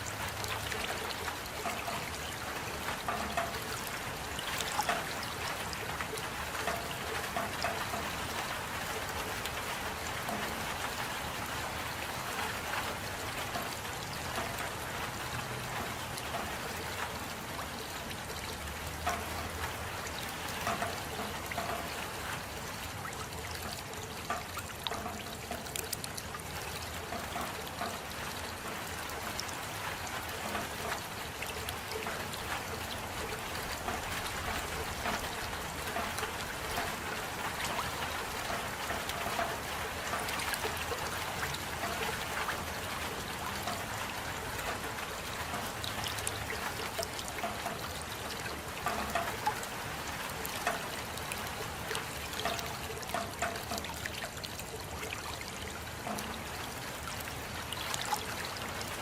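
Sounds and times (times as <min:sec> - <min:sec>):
steady rain: 0:00.0 - 0:59.0
water trickling: 0:00.0 - 0:59.0.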